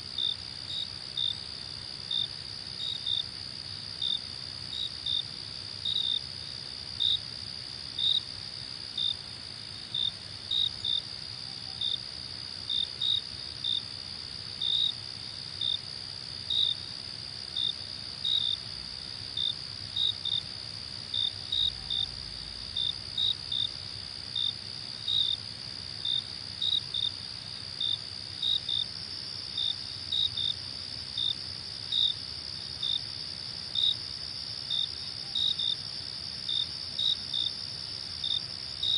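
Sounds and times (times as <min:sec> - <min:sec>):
cricket chirps: 0:00.0 - 0:38.9
crickets trilling: 0:00.0 - 0:38.9.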